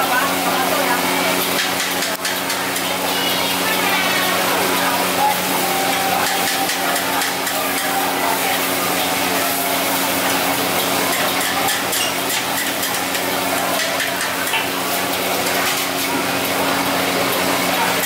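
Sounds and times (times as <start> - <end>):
noodles sizzling in a wok: 0.0 - 18.0
utensils scraping a wok: 0.2 - 18.0.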